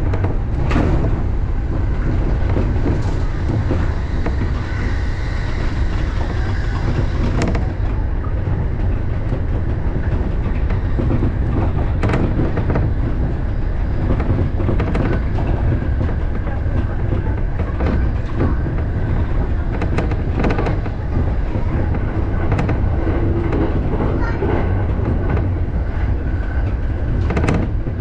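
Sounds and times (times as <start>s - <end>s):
train wheels rumbling: 0.0s - 28.0s
wheels clacking over rail joints: 0.0s - 28.0s.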